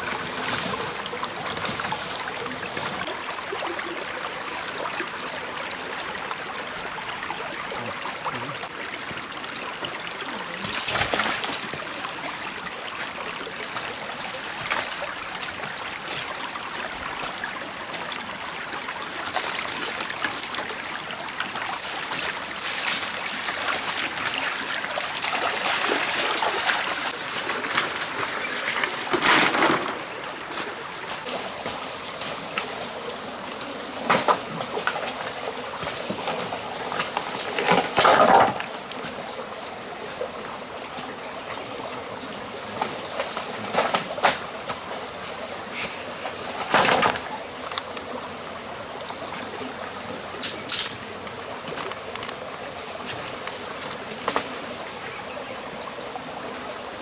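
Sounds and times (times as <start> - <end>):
stream water flowing: 0.0 - 57.0.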